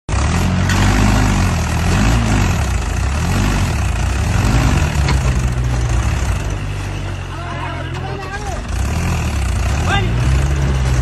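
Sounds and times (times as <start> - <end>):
tractor diesel engine running: 0.1 - 11.0.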